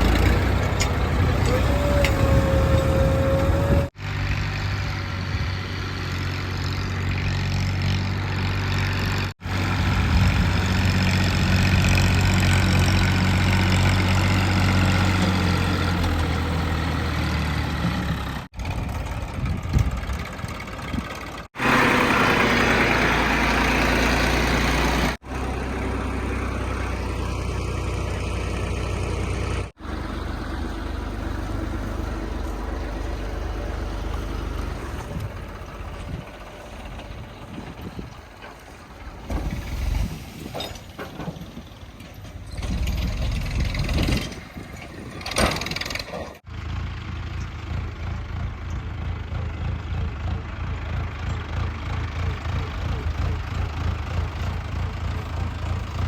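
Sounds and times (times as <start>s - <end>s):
heavy diesel engine running: 0.0s - 39.8s, 41.0s - 56.0s.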